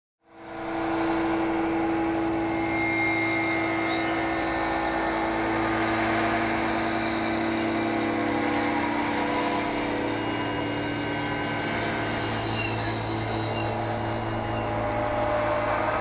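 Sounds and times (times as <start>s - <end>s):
electro-acoustic drone: 0.2s - 16.0s
low hum: 0.6s - 16.0s.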